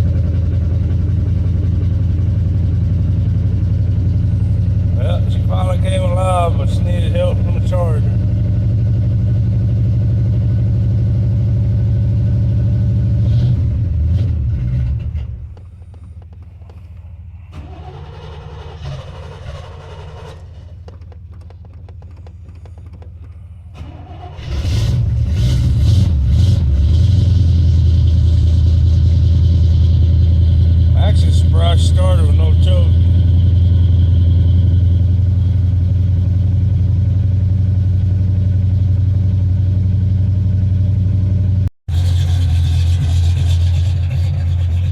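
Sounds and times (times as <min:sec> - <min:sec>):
pickup truck engine idling: 0:00.0 - 0:44.9.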